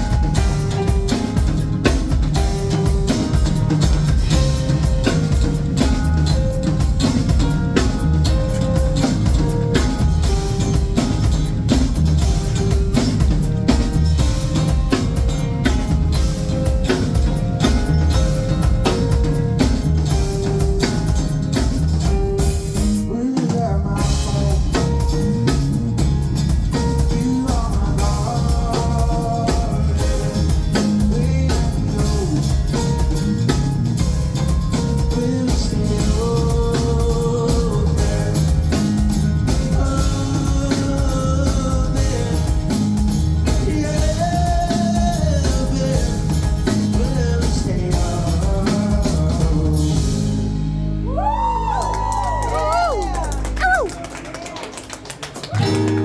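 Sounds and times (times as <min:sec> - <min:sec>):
bass: 0:00.0 - 0:56.0
drum kit beat: 0:00.0 - 0:56.0.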